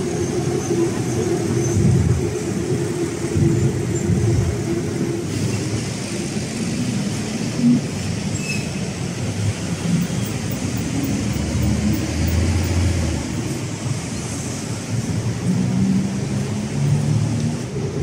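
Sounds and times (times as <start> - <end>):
elevated train passing: 0.0 - 18.0
street traffic: 0.0 - 18.0.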